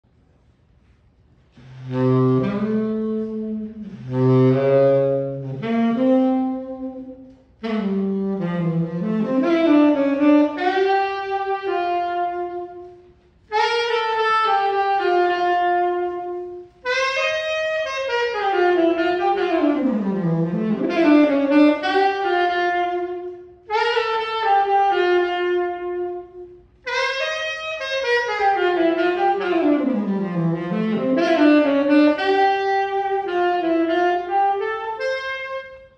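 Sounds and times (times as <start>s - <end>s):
tenor saxophone melody: 1.3s - 35.9s.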